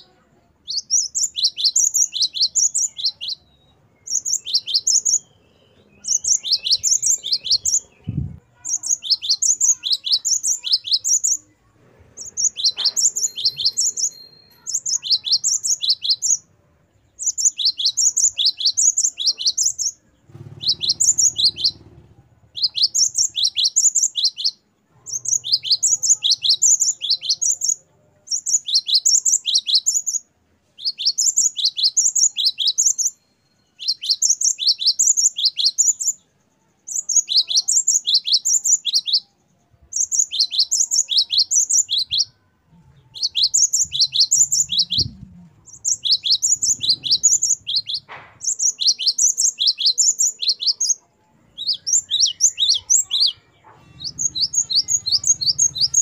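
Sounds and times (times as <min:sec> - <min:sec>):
bird singing whistled phrases: 0:00.7 - 0:11.4, 0:12.3 - 0:16.4, 0:17.2 - 0:20.0, 0:20.6 - 0:21.8, 0:22.5 - 0:27.8, 0:28.4 - 0:30.2, 0:30.8 - 0:36.2, 0:36.8 - 0:42.4, 0:43.2 - 0:56.0.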